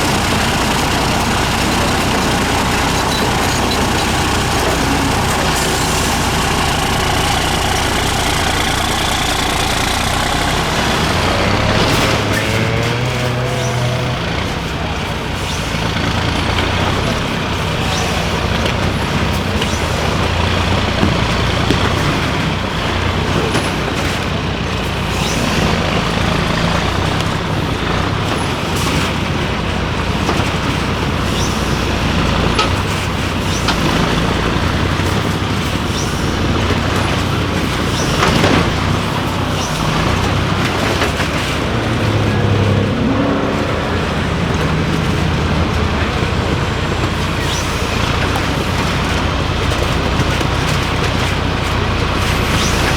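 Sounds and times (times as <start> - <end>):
truck diesel engine under load: 0.0 - 52.9.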